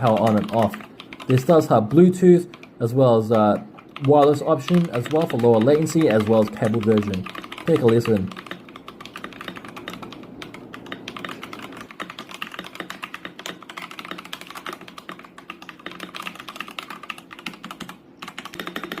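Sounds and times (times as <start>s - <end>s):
mechanical keyboard typing: 0.0s - 19.0s.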